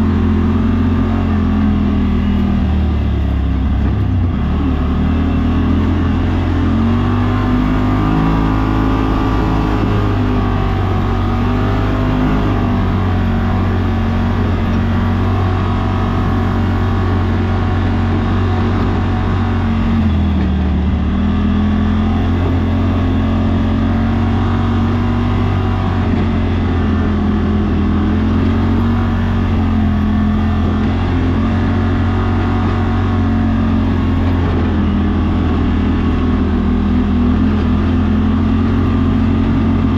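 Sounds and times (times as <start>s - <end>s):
utility vehicle engine running: 0.0s - 39.9s.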